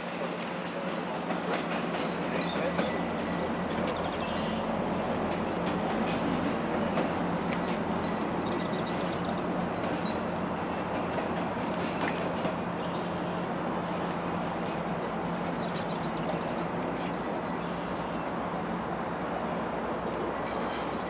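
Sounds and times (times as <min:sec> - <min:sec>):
diesel train rumbling: 0:00.0 - 0:21.0.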